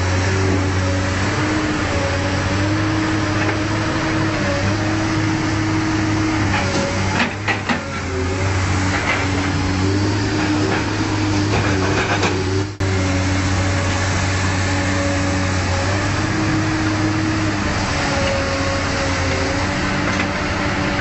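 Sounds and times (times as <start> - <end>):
excavator engine and hydraulics: 0.0 - 21.0.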